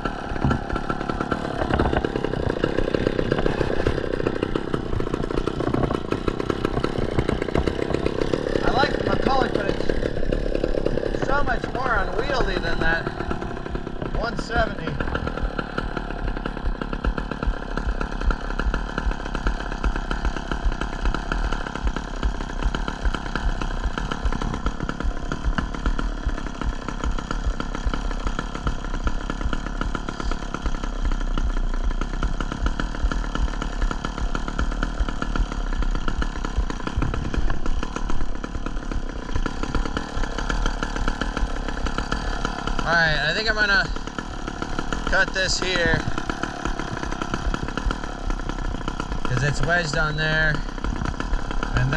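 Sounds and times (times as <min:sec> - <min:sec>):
chainsaw engine running: 0:00.0 - 0:51.9.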